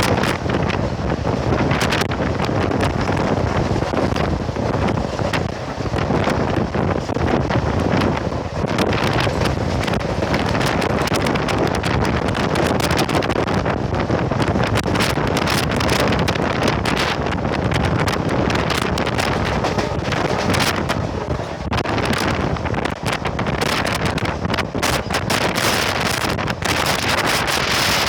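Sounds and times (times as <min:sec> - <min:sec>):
diesel locomotive engine running: 0:00.0 - 0:28.0
wind buffeting microphone: 0:00.0 - 0:28.0.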